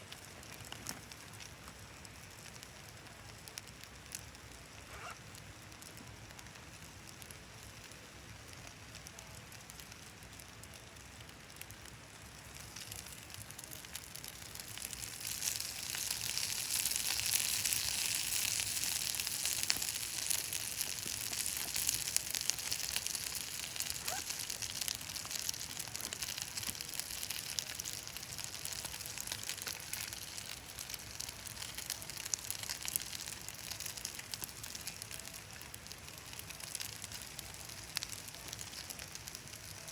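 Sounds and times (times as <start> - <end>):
wood fire crackling and hissing: 0.0 - 39.9.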